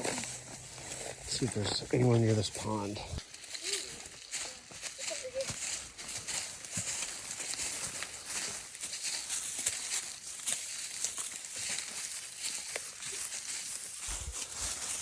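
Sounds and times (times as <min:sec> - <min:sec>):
footsteps through dry leaves: 0:00.0 - 0:15.0.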